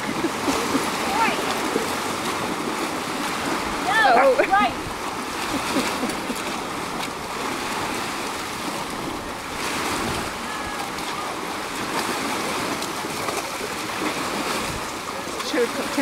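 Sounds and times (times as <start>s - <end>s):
small waves washing onto shore: 0.0s - 16.0s.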